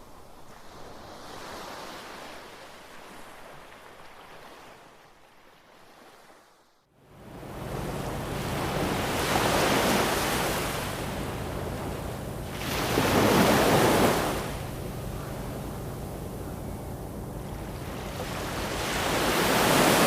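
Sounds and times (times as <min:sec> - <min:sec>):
ocean waves washing ashore: 0:00.0 - 0:20.0.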